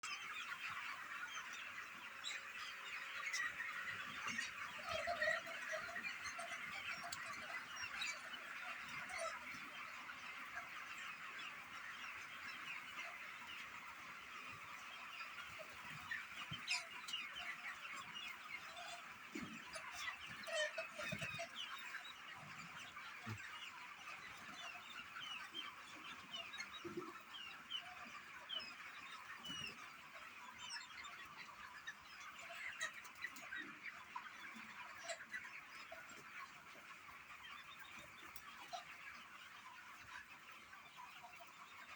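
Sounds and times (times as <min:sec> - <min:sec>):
flock of birds chirping: 0:00.0 - 0:41.9.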